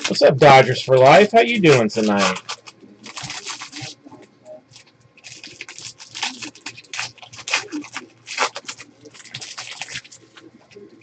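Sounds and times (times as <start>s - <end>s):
foil wrapper crinkling: 0.0s - 4.1s, 4.7s - 11.0s
cards rustling: 0.0s - 11.0s.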